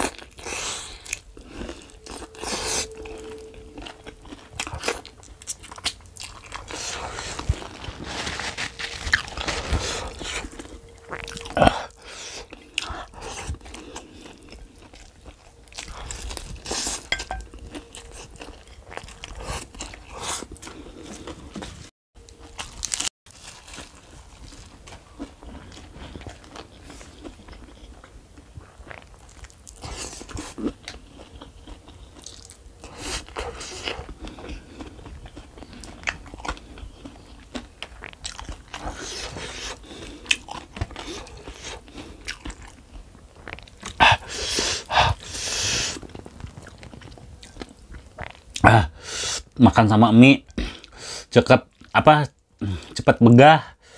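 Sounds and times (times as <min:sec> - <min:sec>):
crunching and chewing food: 0:00.0 - 0:53.9.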